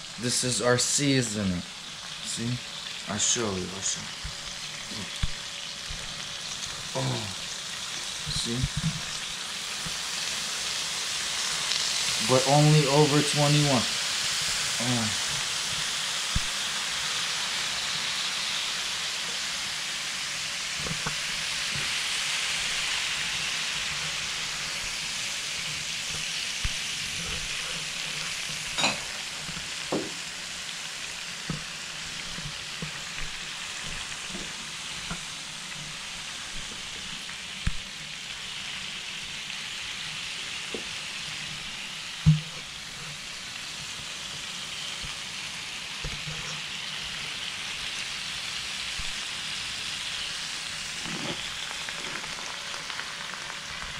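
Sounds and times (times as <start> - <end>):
food sizzling on a grill: 0.0 - 53.9.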